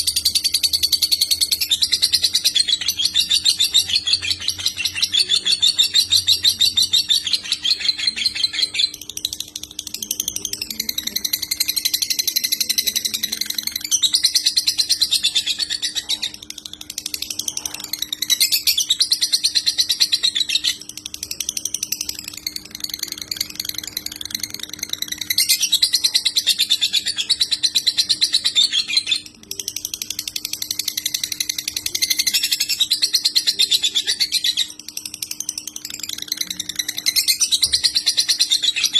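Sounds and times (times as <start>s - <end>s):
faint steady hum: 0.0s - 38.9s
lovebird chattering: 0.0s - 38.9s.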